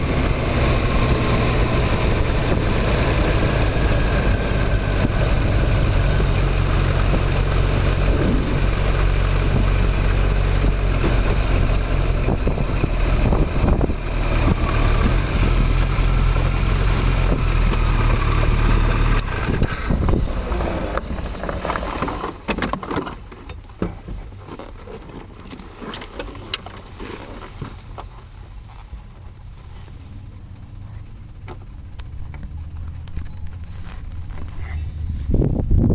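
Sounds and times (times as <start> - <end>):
motorcycle engine idling: 0.0 - 22.5, 28.1 - 35.8.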